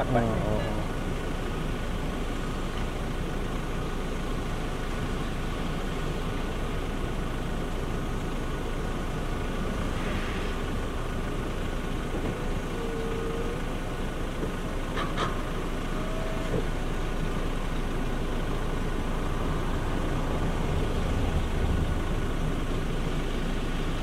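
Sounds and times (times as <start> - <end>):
diesel excavator working: 0.0 - 24.0
dump trucks running: 0.0 - 24.0.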